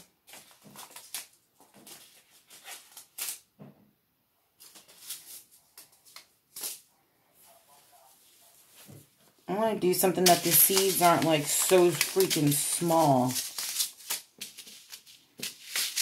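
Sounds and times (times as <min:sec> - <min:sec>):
paper rustles: 0:00.0 - 0:03.4, 0:04.6 - 0:16.0.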